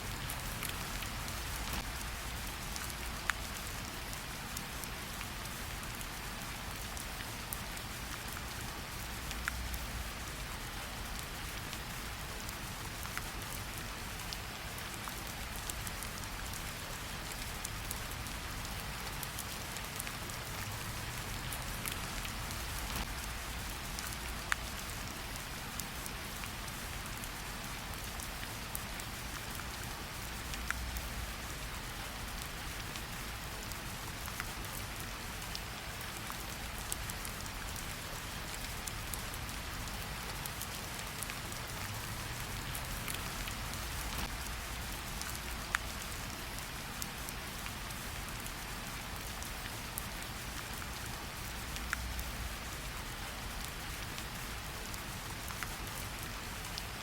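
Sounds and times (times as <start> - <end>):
light rain on leaves: 0.0 - 57.0.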